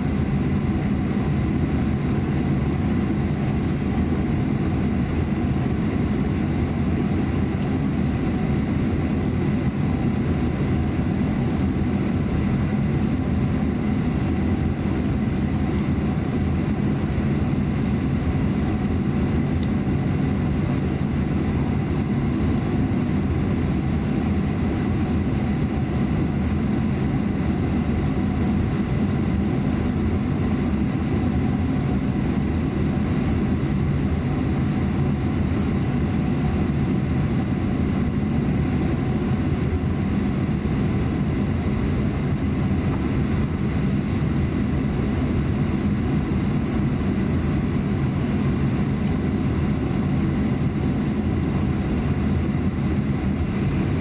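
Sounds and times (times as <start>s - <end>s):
high engine whine: 0.0s - 54.0s
jet engines droning: 0.0s - 54.0s.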